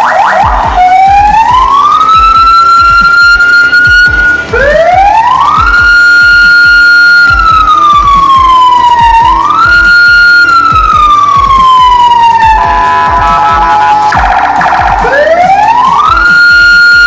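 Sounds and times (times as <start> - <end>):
electronic siren wailing: 0.0 - 17.0.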